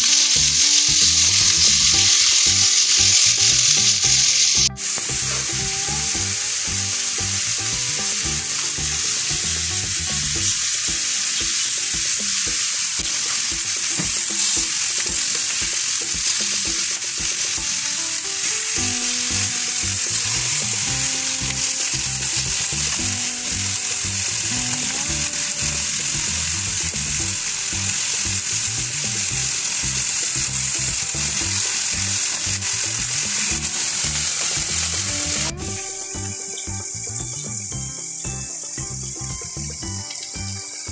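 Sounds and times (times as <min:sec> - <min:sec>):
chicken sizzling on griddle: 0:00.0 - 0:40.9.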